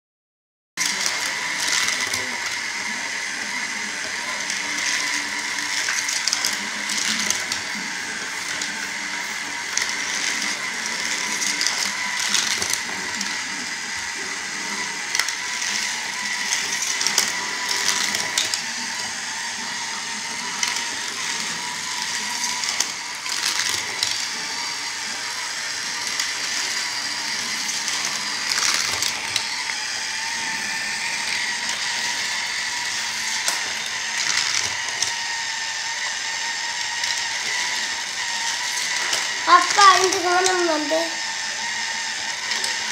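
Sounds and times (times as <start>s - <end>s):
motorized toy lift whining: 0.8s - 42.9s.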